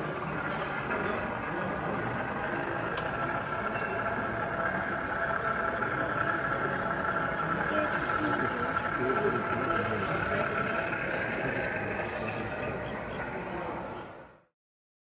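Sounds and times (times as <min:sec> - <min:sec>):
model train whine: 0:00.0 - 0:14.5
murmur of crowd indoors: 0:00.0 - 0:14.5.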